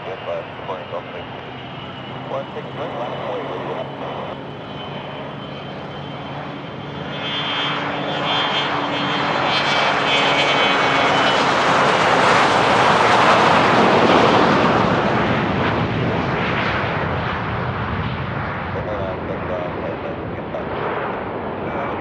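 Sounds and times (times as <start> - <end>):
jet engines whining and rushing: 0.0 - 22.0.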